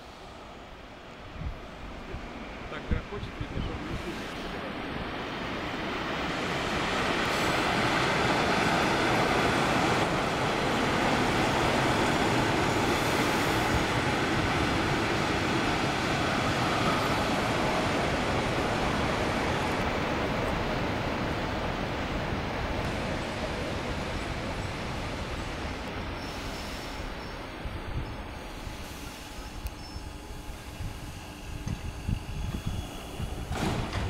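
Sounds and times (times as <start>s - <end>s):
train wheels rumbling on rails: 1.3s - 34.0s.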